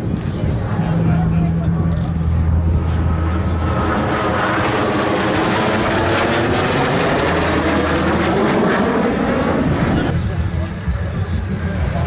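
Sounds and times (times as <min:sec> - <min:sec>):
jets flying past: 0:00.5 - 0:12.0.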